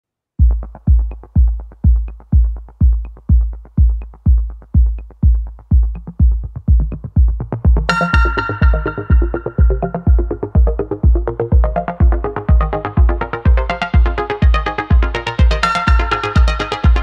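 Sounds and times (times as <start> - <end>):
bass line: 0.4 - 17.0
hi-hats: 0.4 - 17.0
kick drum beating: 0.4 - 17.0
synth chords: 0.4 - 17.0.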